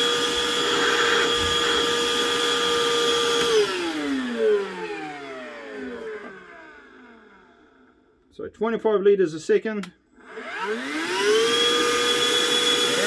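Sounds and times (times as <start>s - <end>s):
vacuum motor whining: 0.0s - 8.0s, 10.2s - 13.0s.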